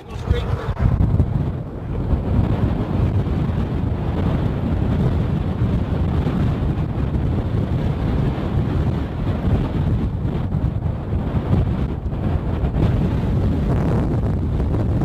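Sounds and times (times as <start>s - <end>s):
vehicle road noise: 0.0s - 14.6s
wind buffeting microphone: 0.0s - 15.0s.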